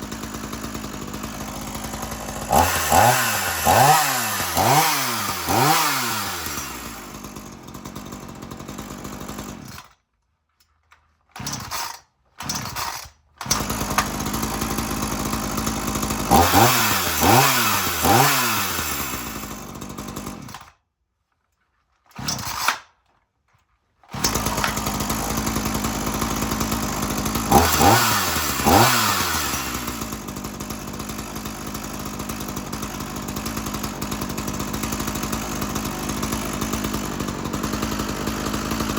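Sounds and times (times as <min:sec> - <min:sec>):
chainsaw engine idling and revving: 0:00.0 - 0:10.0, 0:11.3 - 0:20.8, 0:22.1 - 0:22.9, 0:24.0 - 0:38.9.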